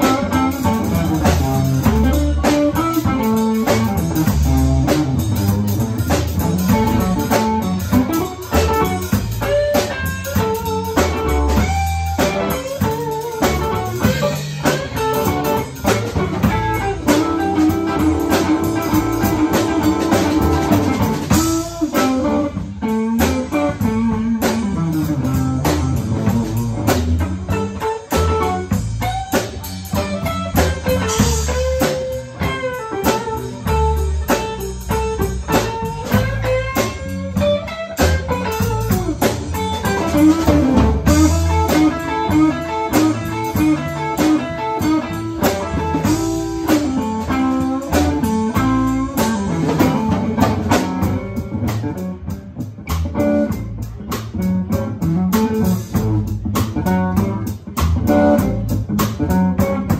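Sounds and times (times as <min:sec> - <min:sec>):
drum kit: 0:00.0 - 0:59.9
electric bass: 0:00.0 - 0:59.9
electric guitar lead lines: 0:00.0 - 0:59.9.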